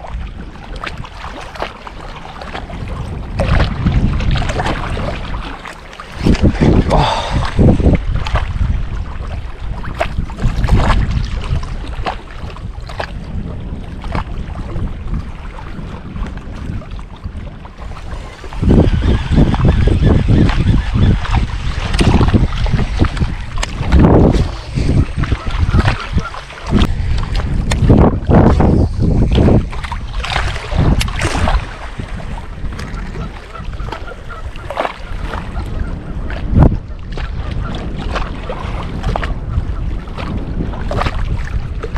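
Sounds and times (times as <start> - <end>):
small waves lapping against boat: 0.0 - 41.9
wind buffeting microphone: 0.0 - 41.9.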